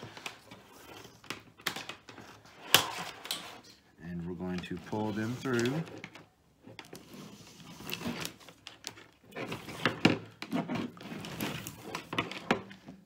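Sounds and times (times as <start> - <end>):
wires rustling and scraping: 0.0 - 13.0.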